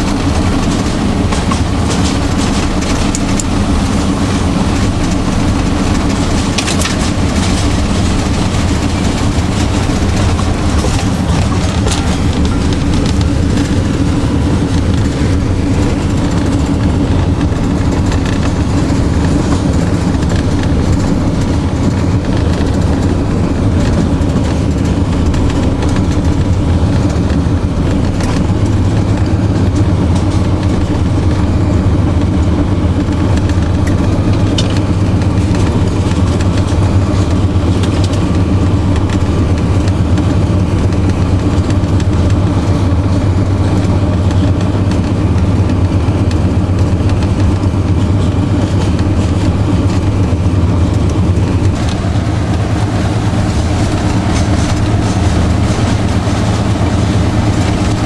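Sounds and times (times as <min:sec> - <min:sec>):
diesel engine running: 0:00.0 - 0:58.0
wheel and rail noise: 0:00.0 - 0:58.0.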